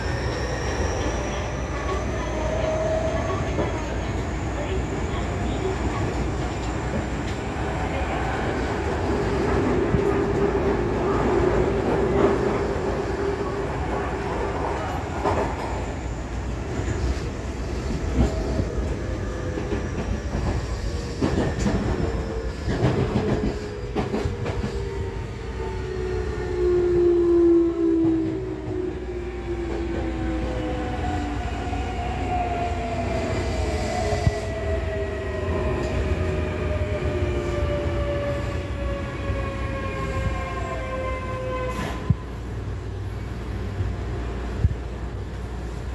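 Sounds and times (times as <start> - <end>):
train running over rails: 0.0 - 45.9.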